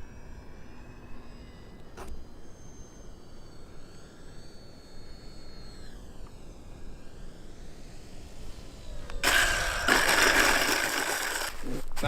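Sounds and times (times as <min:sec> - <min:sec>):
electric motor high whine: 0:00.0 - 0:12.0.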